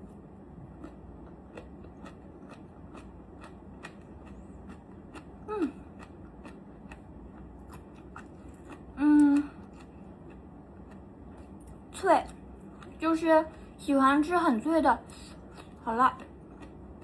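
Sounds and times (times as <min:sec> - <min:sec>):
crunchy chewing: 0:00.0 - 0:13.0, 0:15.1 - 0:17.0.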